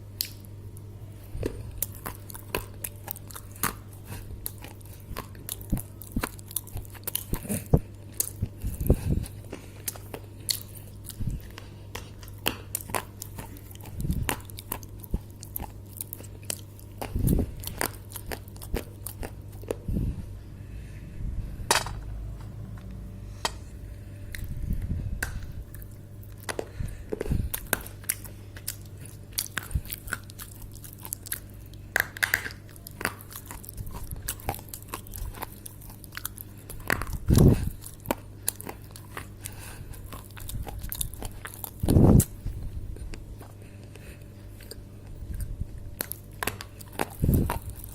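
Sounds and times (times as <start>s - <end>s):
dry clay being chewed: 0.0s - 20.1s, 22.8s - 47.9s
steady low hum: 0.0s - 47.9s.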